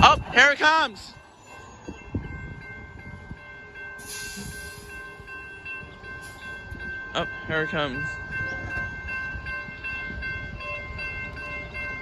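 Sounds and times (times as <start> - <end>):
crossing signal bell ringing: 0.0 - 12.0
freight train rumbling: 0.0 - 12.0.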